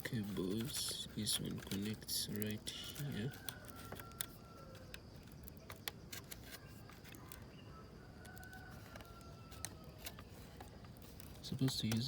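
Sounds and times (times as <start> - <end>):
small plastic parts clicking: 0.0 - 12.0.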